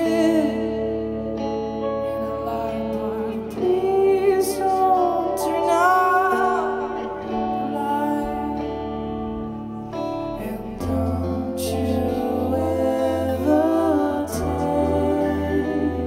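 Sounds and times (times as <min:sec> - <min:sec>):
electric guitar: 0:00.0 - 0:16.0
man singing long notes: 0:00.0 - 0:16.0.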